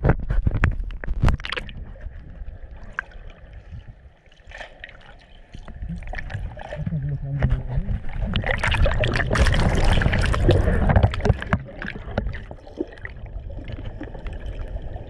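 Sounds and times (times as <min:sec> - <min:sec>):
water sloshing and gurgling underwater: 0:00.0 - 0:15.0.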